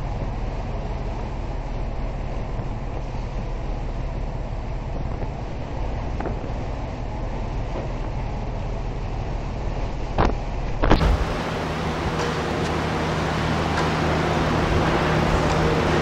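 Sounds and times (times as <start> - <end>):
rushing sea: 0.0 - 16.0
steady low hum: 0.0 - 16.0
wind: 0.0 - 16.0.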